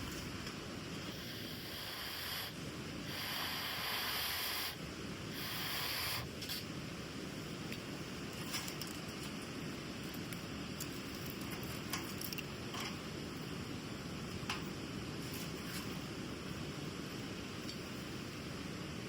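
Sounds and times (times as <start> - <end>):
steady outdoor rumble: 0.0 - 19.0.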